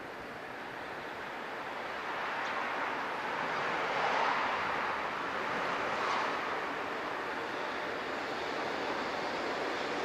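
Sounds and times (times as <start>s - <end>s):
freight train wheels on rail: 0.0s - 10.0s.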